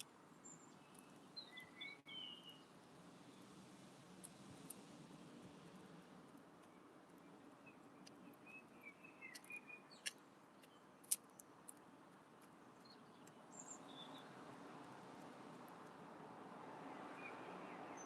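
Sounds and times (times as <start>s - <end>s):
small birds chirping: 0.0s - 4.8s, 6.3s - 16.0s.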